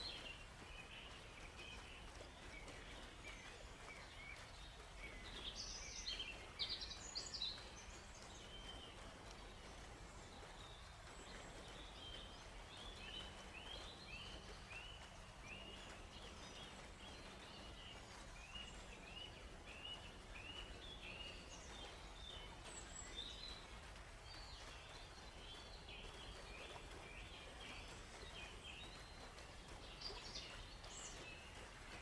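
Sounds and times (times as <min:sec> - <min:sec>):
faint background hiss: 0:00.0 - 0:32.0
songbirds chirping: 0:00.0 - 0:32.0.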